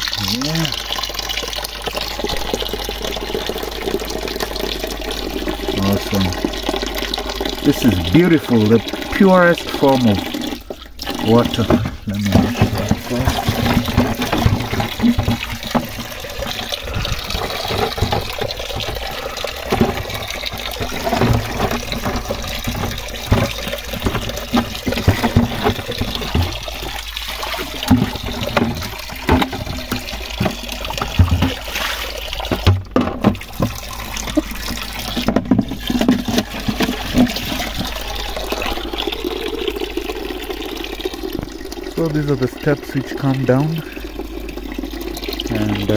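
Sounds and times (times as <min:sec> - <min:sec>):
water pouring into a pool: 0:00.0 - 0:45.9.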